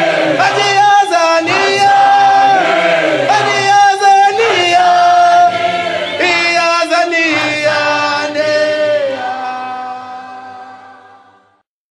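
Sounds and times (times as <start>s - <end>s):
voices singing: 0.0s - 11.6s.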